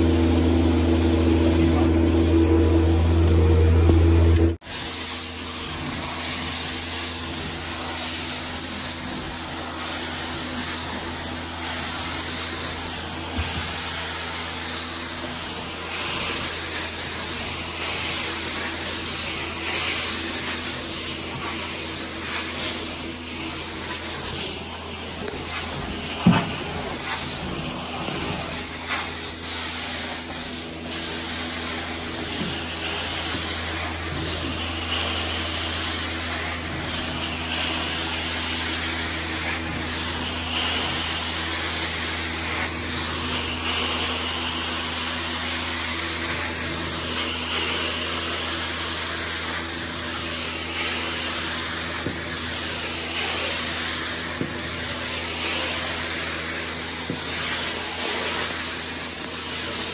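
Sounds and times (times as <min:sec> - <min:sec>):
carpet cleaner suction hiss: 0:00.0 - 0:59.9
low machine hum: 0:00.0 - 0:59.9.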